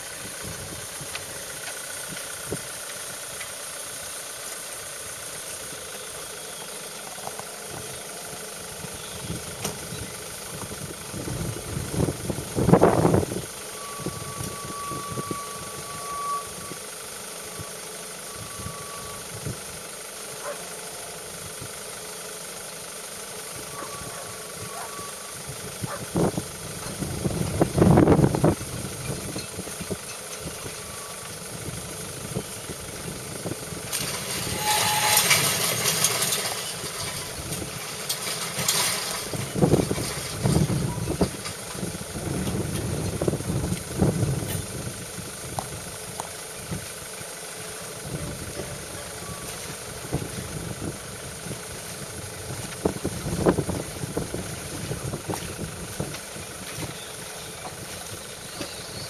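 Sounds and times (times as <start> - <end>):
car engine idling: 0.0 - 59.0
steady low rumble: 0.0 - 59.0.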